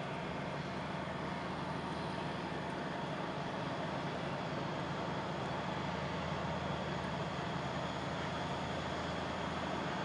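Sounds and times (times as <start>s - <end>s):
diesel locomotive engine droning: 0.0s - 10.0s.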